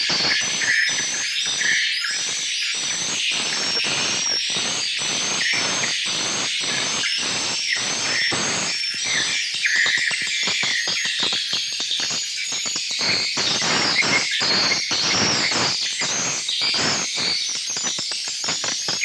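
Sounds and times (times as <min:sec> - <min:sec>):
swiftlets twittering: 0:00.0 - 0:19.0.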